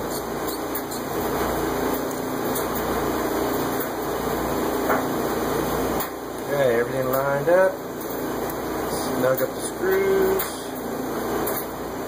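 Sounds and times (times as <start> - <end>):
machine hum and hiss: 0.0 - 12.0.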